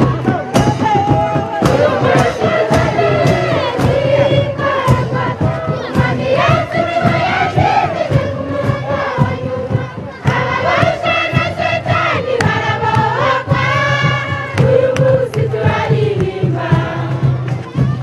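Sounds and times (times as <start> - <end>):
crowd singing: 0.0 - 18.0
strong voice singing melody: 0.0 - 18.0.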